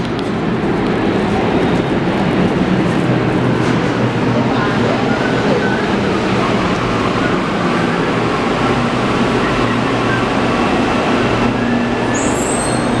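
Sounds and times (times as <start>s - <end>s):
underground station rumble: 0.0s - 13.0s.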